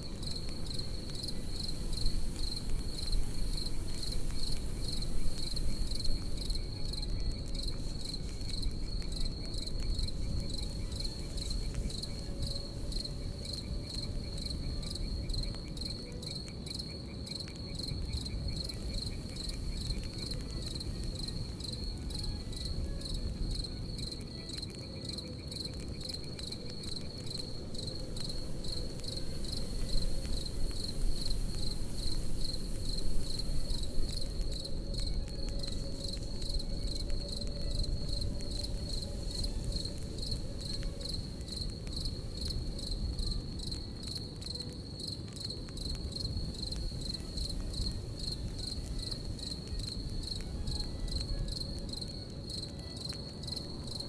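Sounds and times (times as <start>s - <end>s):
campfire rustling and crackling: 0.0s - 54.0s
crickets chirping: 0.0s - 54.0s.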